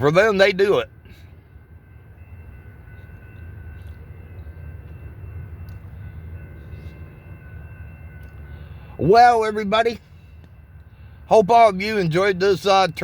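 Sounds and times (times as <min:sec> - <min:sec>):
passenger train rumbling by: 0:00.0 - 0:13.0.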